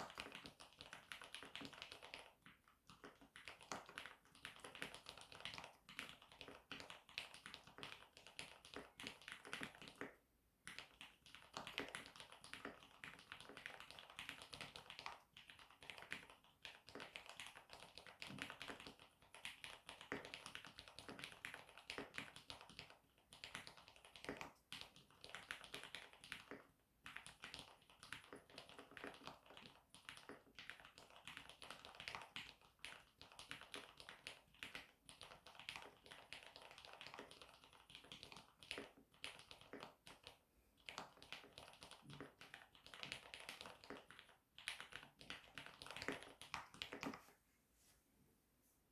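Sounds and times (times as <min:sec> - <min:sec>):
mechanical keyboard typing: 0:00.0 - 0:10.0, 0:10.7 - 0:47.2.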